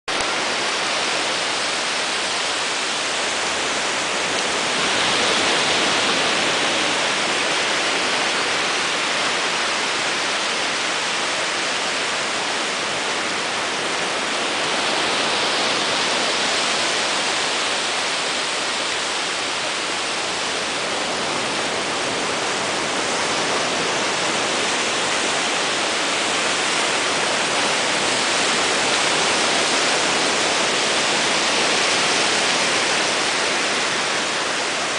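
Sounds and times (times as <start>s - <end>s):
small waves breaking on sand: 0.1s - 34.9s.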